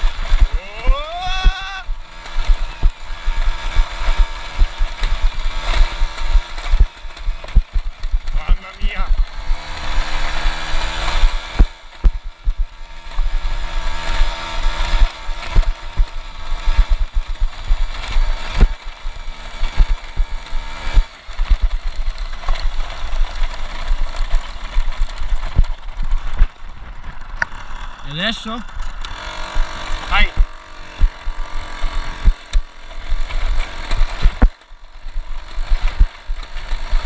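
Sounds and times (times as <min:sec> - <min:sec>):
bike knocks and rattles: 0:00.0 - 0:27.6, 0:28.7 - 0:37.0
moped engine revving: 0:00.0 - 0:37.0.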